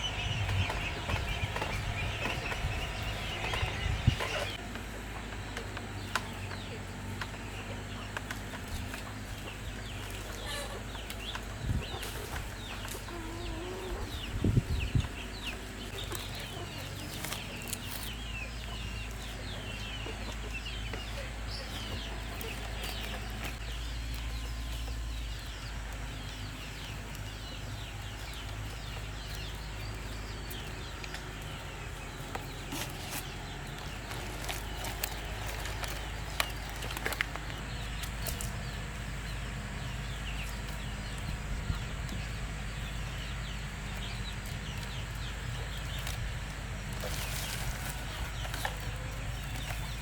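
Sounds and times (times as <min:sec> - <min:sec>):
chickens clucking: 0:00.0 - 0:50.0.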